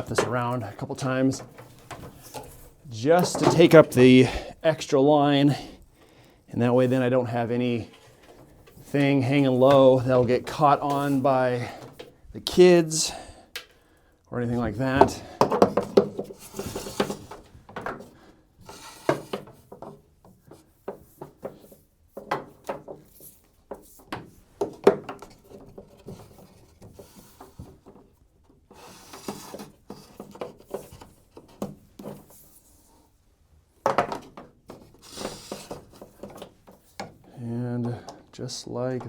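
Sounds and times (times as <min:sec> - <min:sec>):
rustling and scraping: 0:00.0 - 0:13.1, 0:14.4 - 0:39.0.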